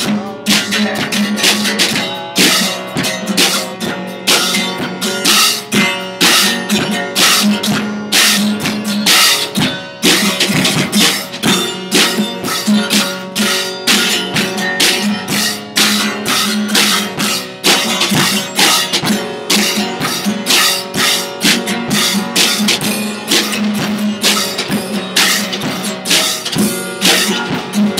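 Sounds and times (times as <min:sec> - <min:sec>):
drum kit playing a beat: 0:00.0 - 0:27.9
strummed guitar: 0:00.0 - 0:27.9.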